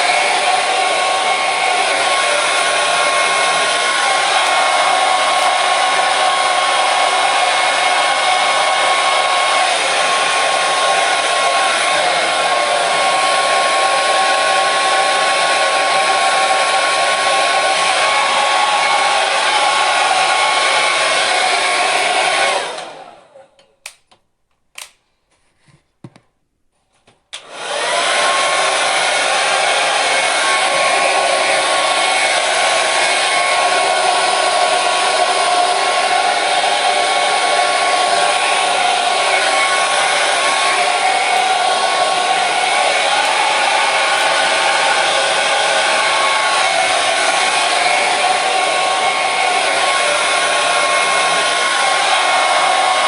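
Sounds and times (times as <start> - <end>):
hair dryer whining: 0.0 - 24.2, 24.8 - 25.0, 27.3 - 53.0.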